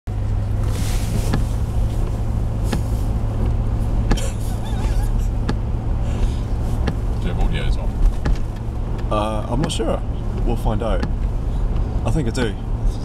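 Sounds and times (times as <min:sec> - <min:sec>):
car engine and tyre noise: 0:00.1 - 0:13.0.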